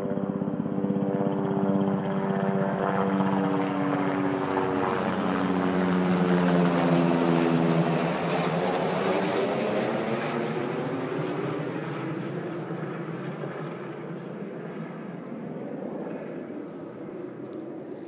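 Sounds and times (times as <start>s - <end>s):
helicopter flying over: 0.0s - 18.0s.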